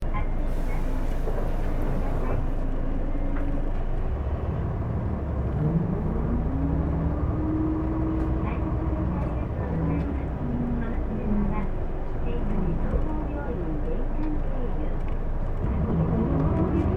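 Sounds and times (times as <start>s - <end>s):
bus diesel engine running: 0.0s - 16.9s.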